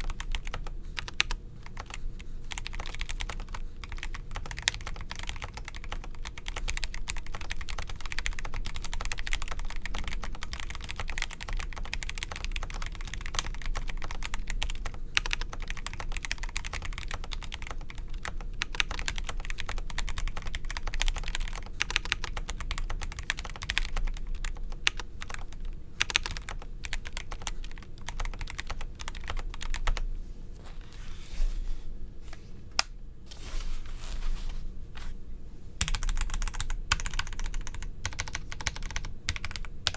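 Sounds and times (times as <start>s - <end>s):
fast typing on mechanical keyboard: 0.0s - 30.0s, 35.8s - 39.9s.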